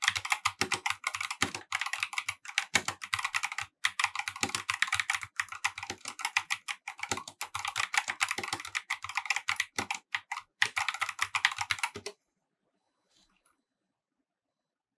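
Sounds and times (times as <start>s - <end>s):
keyboard typing clacks: 0.0s - 12.1s.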